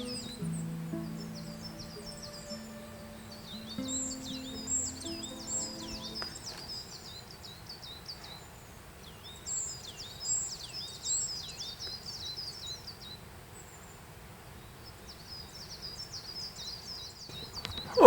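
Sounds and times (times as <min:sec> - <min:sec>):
songbird chirping: 0:00.0 - 0:13.2, 0:14.8 - 0:18.0
faint background hiss: 0:00.0 - 0:18.0.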